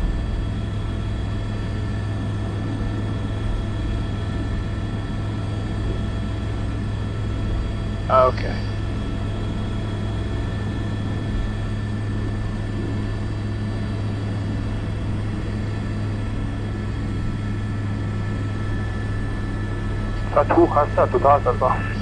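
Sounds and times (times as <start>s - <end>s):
helicopter rotor drone: 0.0s - 22.0s
high turbine whine: 0.0s - 22.0s.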